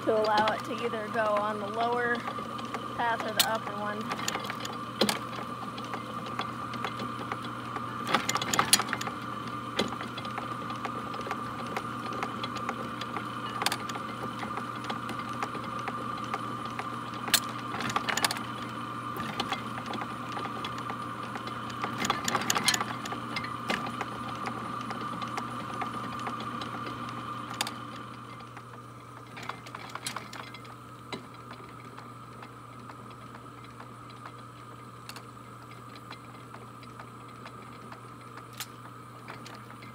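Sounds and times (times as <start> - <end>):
steady high hum: 0.0 - 39.9.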